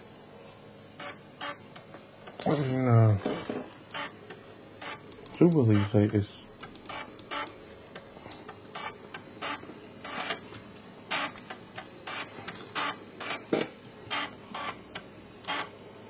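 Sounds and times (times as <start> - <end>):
floppy drive clicking and seeking: 1.0 - 15.8.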